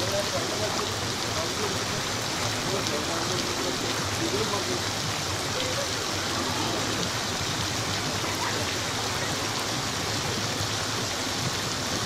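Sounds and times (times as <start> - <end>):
water spraying like rain: 0.0 - 12.0.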